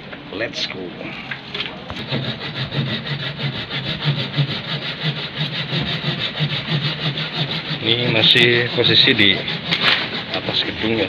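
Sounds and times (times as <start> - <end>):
hand saw cutting wood: 1.1 - 11.0.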